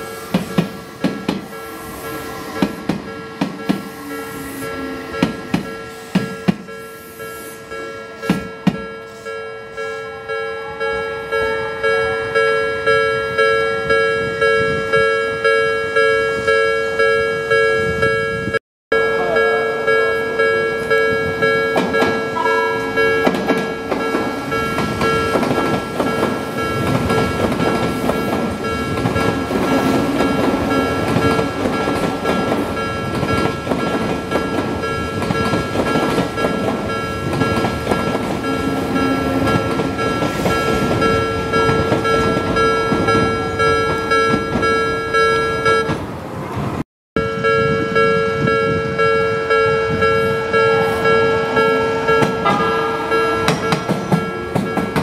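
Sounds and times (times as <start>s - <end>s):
level crossing bell ringing: 0.0s - 45.9s, 47.2s - 55.0s
train rumbling: 0.0s - 55.0s.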